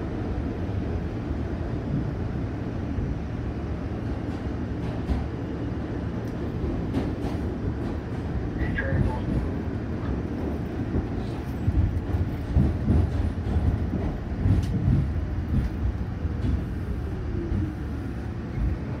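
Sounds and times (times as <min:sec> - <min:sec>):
subway car wheels on rails: 0:00.0 - 0:19.0.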